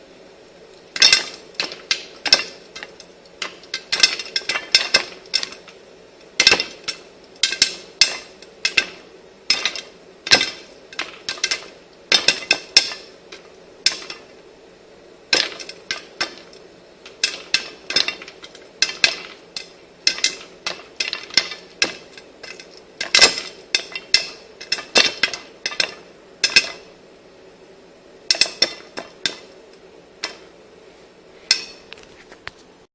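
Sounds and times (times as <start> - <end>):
faint steady hum: 0.0 - 32.9
popcorn kernels popping: 1.0 - 14.4, 15.3 - 26.9, 28.3 - 29.6.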